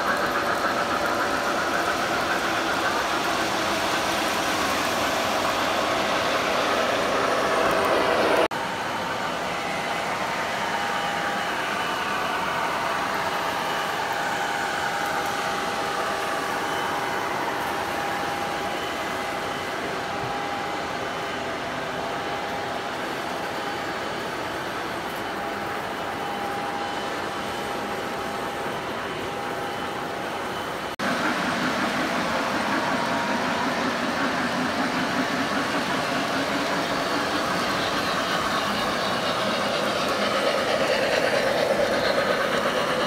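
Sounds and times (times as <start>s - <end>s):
model train wheels rumbling: 0.0s - 43.0s.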